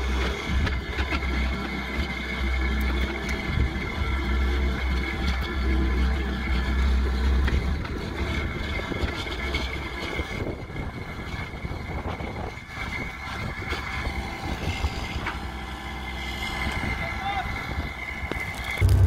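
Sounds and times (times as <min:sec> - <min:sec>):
diesel engine running: 0:00.0 - 0:19.0
steady high whine: 0:00.0 - 0:19.0.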